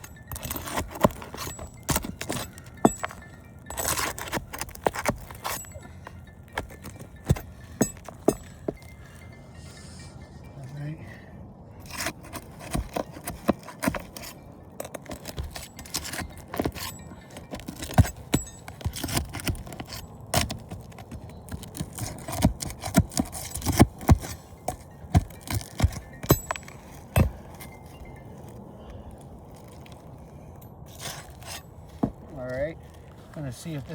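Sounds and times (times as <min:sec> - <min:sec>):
pry bar clicking and scraping: 0:00.0 - 0:09.3, 0:11.8 - 0:33.1.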